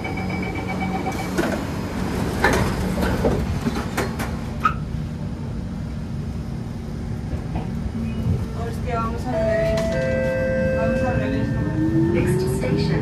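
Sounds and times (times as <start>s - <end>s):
train clunks and rattles: 0.0s - 11.6s
train hum: 0.0s - 13.0s.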